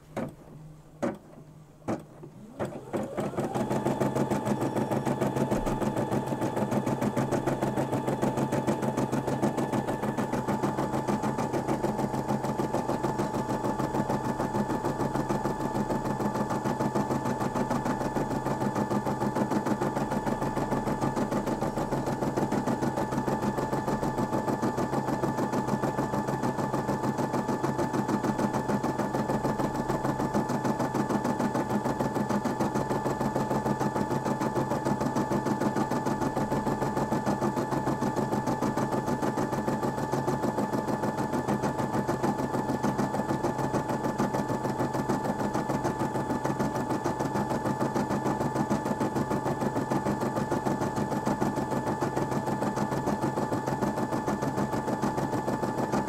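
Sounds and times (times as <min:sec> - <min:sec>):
embroidery machine stitching: 0:01.0 - 0:56.0.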